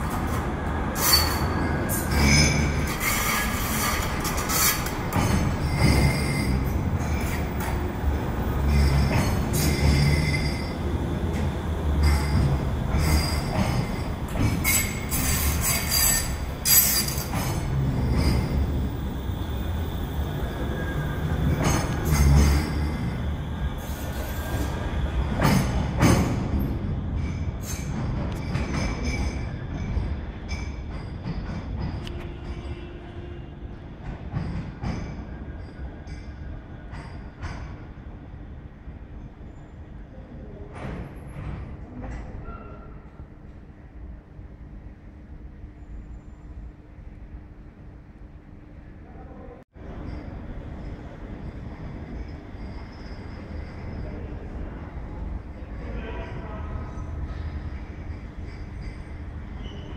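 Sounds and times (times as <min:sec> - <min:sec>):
wheels squealing on rails: 0:00.0 - 0:38.4, 0:41.2 - 0:43.4, 0:49.8 - 0:59.9
tram rumbling: 0:00.0 - 0:59.9.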